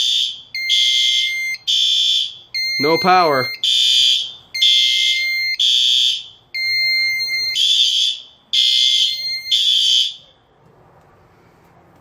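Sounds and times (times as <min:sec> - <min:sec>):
fire alarm horn blasts: 0:00.0 - 0:10.2.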